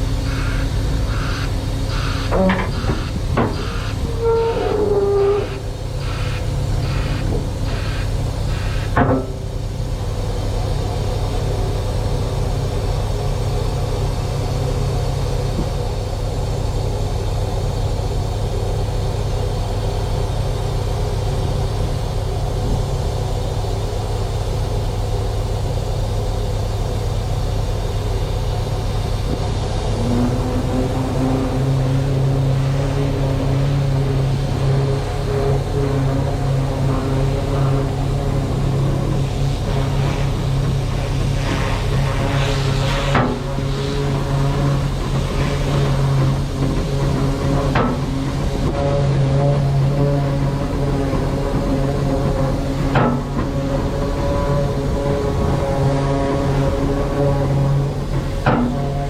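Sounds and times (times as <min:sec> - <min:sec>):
higher engine tone: 0:00.0 - 0:59.0
vehicle engine rumbling: 0:00.0 - 0:59.0.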